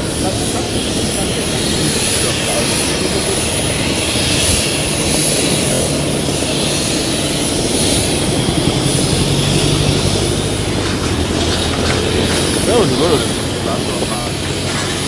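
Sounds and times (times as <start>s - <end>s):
airliner engines rumbling: 0.0s - 15.0s
high steady engine whine: 0.0s - 15.0s.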